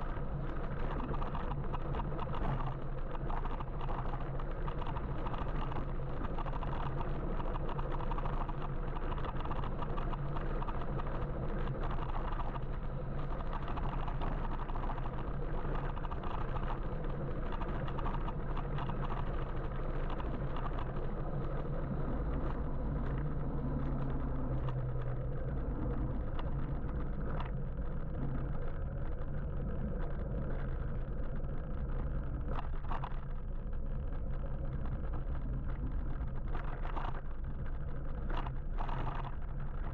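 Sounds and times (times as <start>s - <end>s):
low steady hum: 0.0s - 39.9s
road and wind noise: 0.0s - 39.9s.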